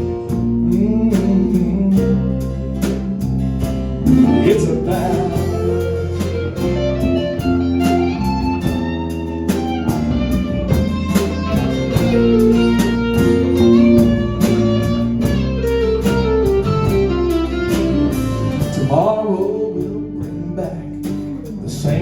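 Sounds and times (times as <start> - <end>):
guitar solo: 0.0 - 1.1, 1.7 - 21.4
bass: 0.0 - 22.0
steady drum beat: 0.0 - 22.0.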